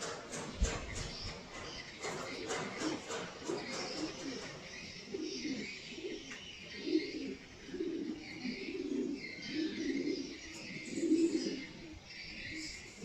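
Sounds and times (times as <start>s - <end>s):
birds chirping: 0.0s - 13.0s
pigeons cooing: 0.0s - 13.0s.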